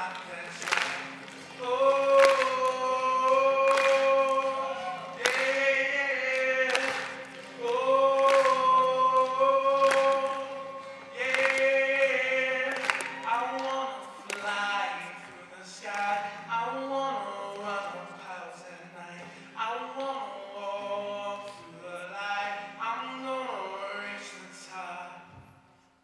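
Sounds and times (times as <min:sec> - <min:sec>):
acoustic guitar strumming: 0:00.0 - 0:25.3
man singing: 0:00.0 - 0:25.5.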